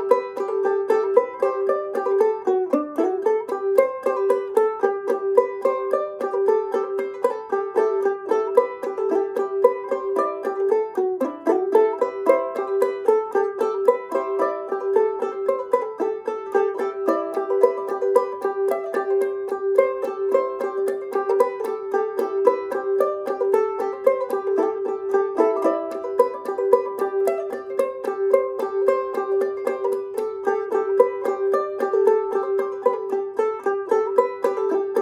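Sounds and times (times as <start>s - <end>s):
ukulele playing fiddle tune: 0.0s - 35.0s.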